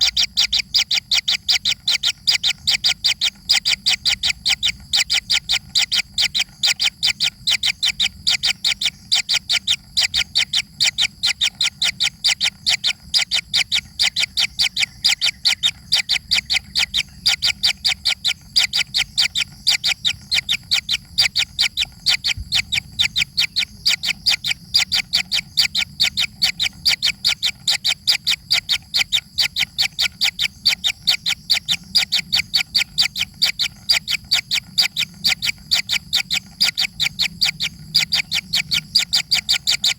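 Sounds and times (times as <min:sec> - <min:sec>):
baby bird chirping: 0:00.0 - 0:39.9.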